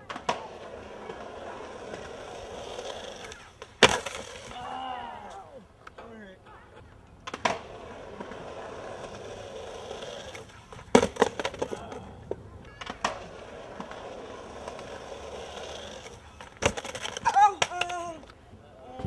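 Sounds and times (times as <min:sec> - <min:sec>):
skateboard clacks and slaps: 0:00.0 - 0:04.7, 0:06.8 - 0:19.0
skateboard wheels rolling: 0:00.0 - 0:19.0.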